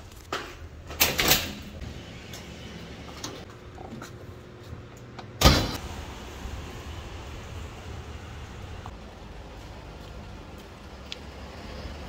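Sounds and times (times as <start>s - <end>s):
low rumble of street traffic: 1.6s - 12.0s.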